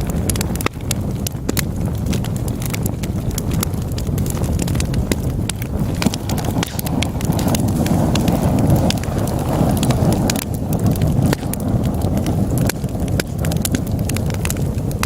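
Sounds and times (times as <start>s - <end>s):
logs crackling and popping: 0.0s - 15.0s
low rush of flames: 0.0s - 15.0s.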